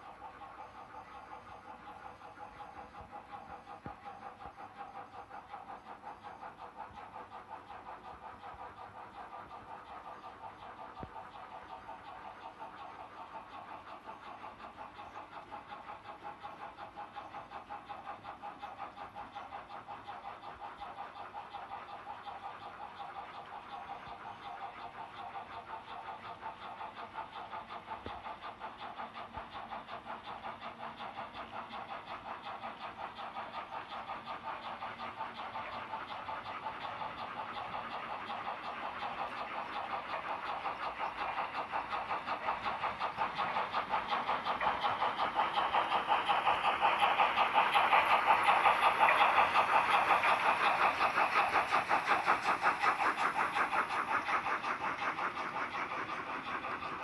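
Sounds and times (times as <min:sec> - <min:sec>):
model train clicking on track: 0:00.0 - 0:57.0.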